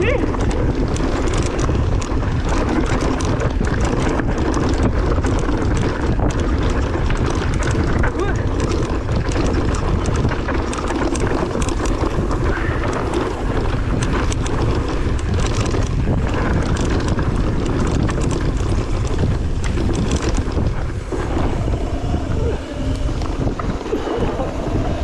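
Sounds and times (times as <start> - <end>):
clicks and rattles: 0.0 - 21.7
wind buffeting microphone: 0.0 - 25.0.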